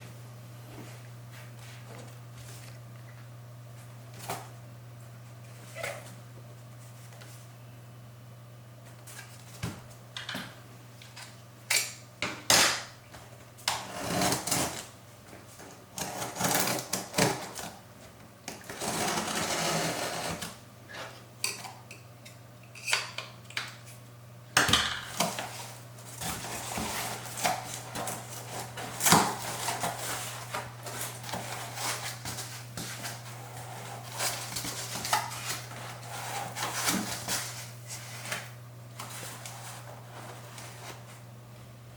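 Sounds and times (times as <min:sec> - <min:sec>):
steady low hum: 0:00.0 - 0:12.2, 0:17.4 - 0:41.9.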